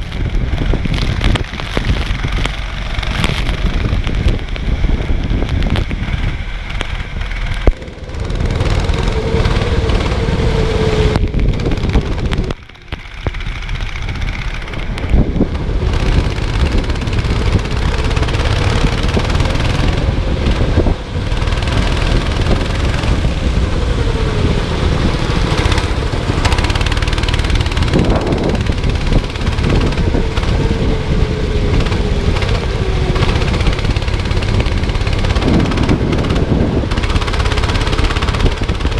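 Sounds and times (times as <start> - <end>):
racing kart engine revving: 0.0 - 38.9.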